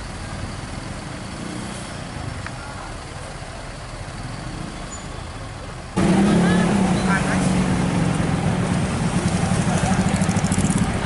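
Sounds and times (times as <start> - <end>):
low engine rumble: 2.0 - 11.0.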